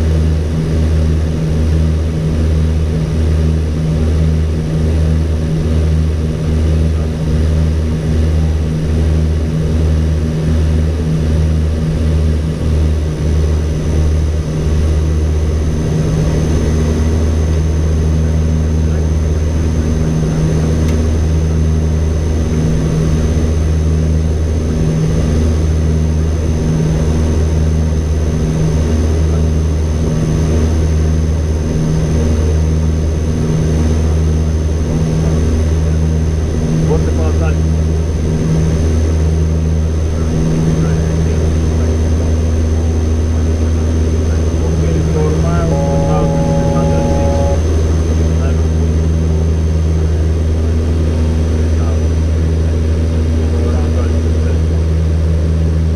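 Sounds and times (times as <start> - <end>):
propeller drone throbbing: 0.0 - 55.9.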